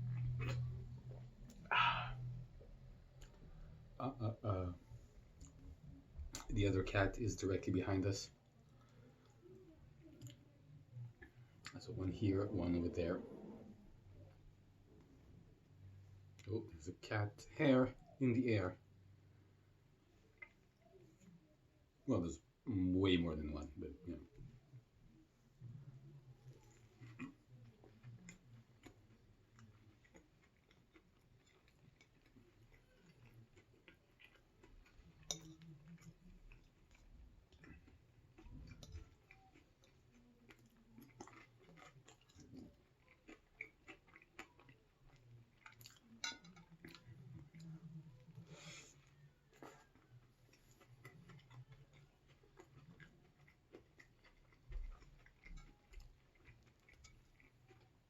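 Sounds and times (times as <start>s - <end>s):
quiet chewing: 0.0s - 22.7s, 23.5s - 58.0s
low steady hum: 0.0s - 58.0s.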